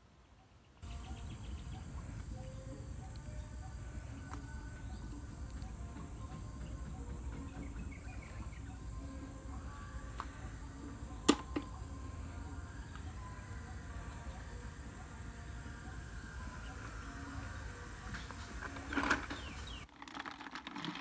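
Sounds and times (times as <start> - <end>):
faint bird chirps: 0.1 - 19.8
insect drone: 0.8 - 19.8.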